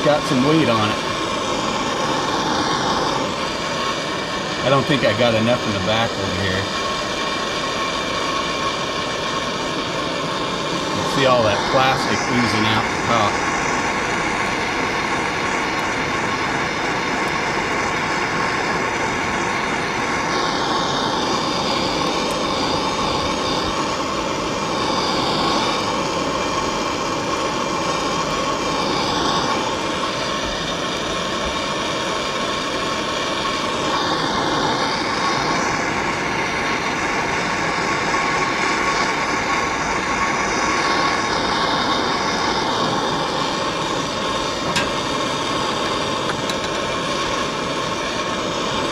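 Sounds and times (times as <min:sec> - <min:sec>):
gas torch hissing: 0:00.0 - 0:48.9.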